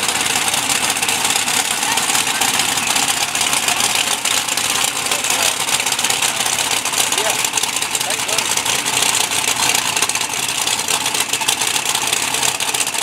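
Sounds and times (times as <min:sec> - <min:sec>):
indistinct crowd chatter: 0:00.0 - 0:13.0
truck engines idling loudly: 0:00.0 - 0:13.0.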